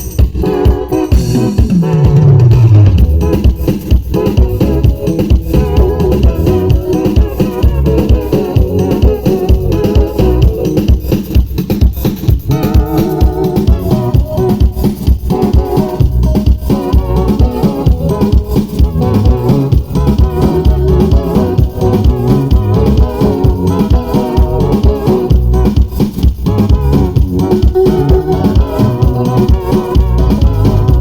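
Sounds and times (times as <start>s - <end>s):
heavy pulsing bass: 0.0s - 31.0s
live band playing: 0.0s - 31.0s.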